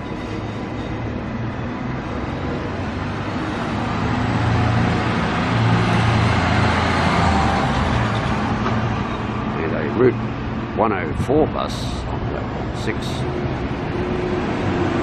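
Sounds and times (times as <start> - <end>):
bus engine hum: 0.0 - 15.0
road noise: 0.0 - 15.0.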